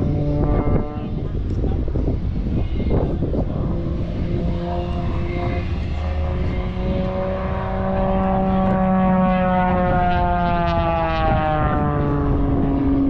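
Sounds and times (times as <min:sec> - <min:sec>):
low wind rumble: 0:00.0 - 0:13.0
propeller airplane droning: 0:00.0 - 0:13.0.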